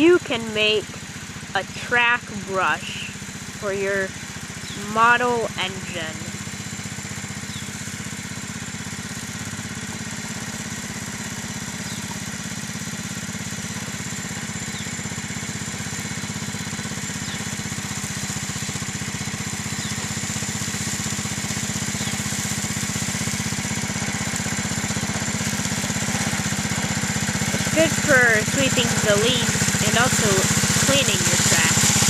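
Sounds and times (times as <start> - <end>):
small locomotive engine running: 0.0 - 32.0.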